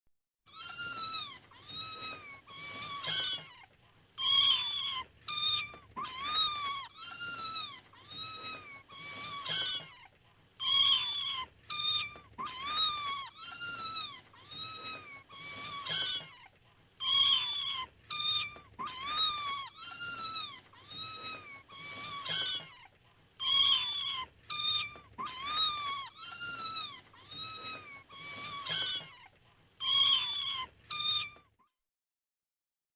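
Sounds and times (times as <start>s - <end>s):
kittens mewing: 0.5s - 31.5s.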